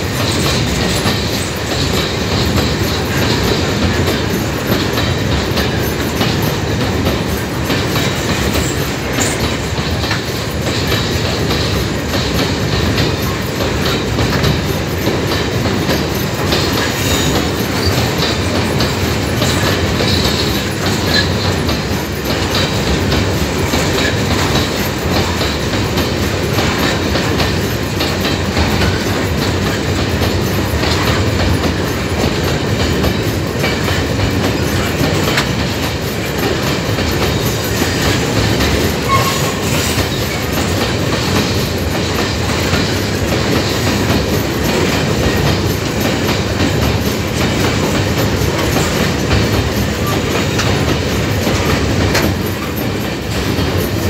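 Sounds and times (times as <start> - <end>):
rumble of train wheels on rail: 0.0 - 54.0
wheels clacking over rail joints: 0.0 - 54.0.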